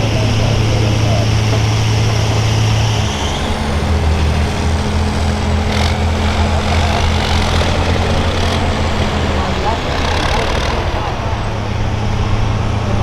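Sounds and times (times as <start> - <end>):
tractor engine running loud: 0.0 - 13.0.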